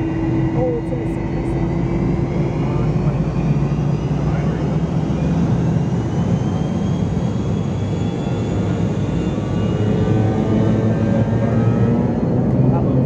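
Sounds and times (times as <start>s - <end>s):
faint high jet whine: 0.0s - 13.0s.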